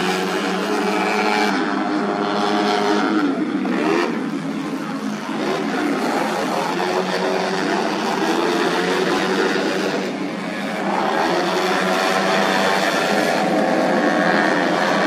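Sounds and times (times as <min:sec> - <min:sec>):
scooter engines racing at high revs: 0:00.0 - 0:15.0.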